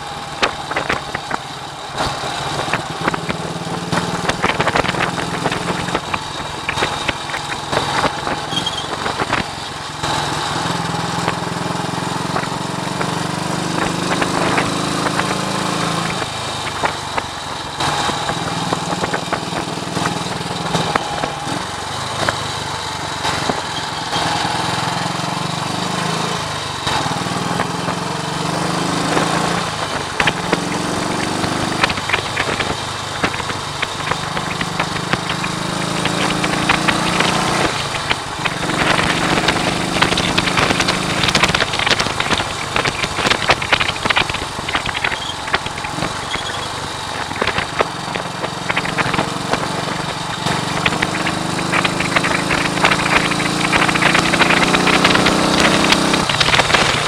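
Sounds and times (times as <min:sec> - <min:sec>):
wind buffeting microphone: 0:00.0 - 0:25.5, 0:26.3 - 0:57.0
motorcycle engine shifting gears: 0:00.0 - 0:57.0.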